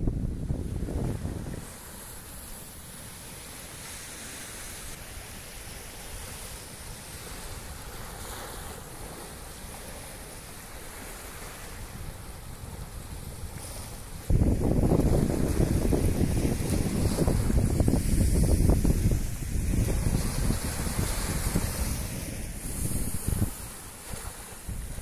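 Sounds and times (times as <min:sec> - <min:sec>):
wind on microphone: 0:00.0 - 0:03.0, 0:05.8 - 0:25.0
small surf washing on shore: 0:00.0 - 0:25.0.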